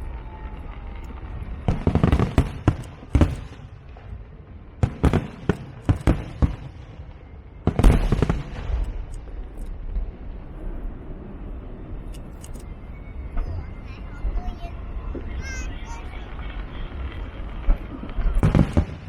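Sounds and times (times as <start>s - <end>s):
fireworks bangs: 0.0s - 11.2s, 13.4s - 19.0s
fireworks crackling: 0.0s - 12.3s, 13.2s - 19.0s.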